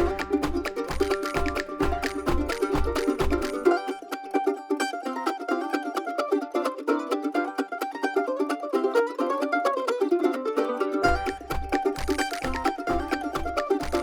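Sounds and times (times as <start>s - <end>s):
plucked-string melody: 0.0s - 14.0s.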